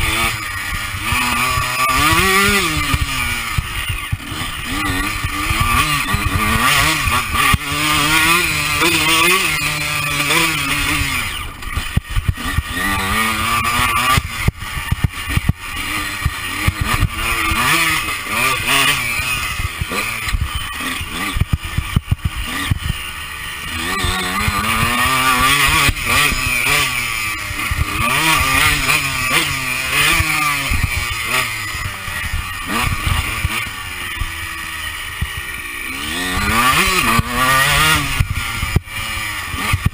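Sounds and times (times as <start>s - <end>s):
bike knocking and rattling: 0.0s - 39.9s
motocross engine revving: 0.0s - 39.9s.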